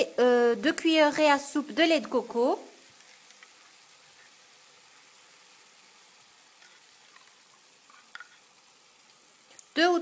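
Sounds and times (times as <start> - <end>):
chicken frying in a pan: 0.0 - 10.0.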